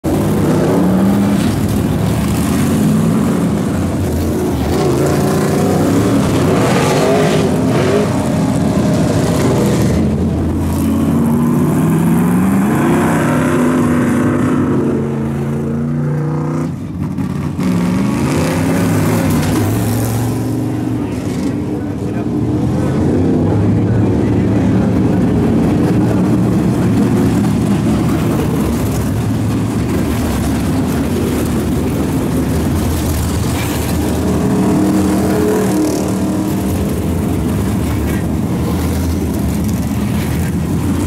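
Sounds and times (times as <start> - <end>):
race car engines revving by: 0.0 - 41.0.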